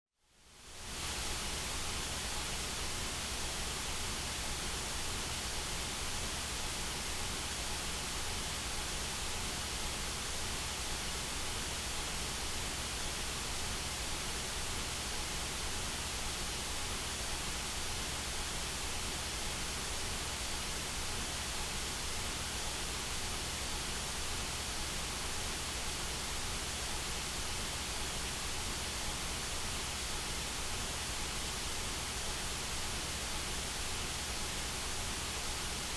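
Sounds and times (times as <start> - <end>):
white noise hiss: 0.2 - 35.9.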